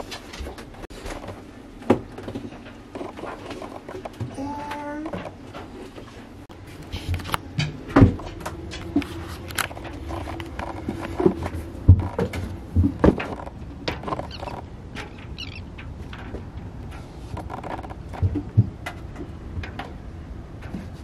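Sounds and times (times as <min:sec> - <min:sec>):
knocks and thumps of movement: 0:00.0 - 0:21.0.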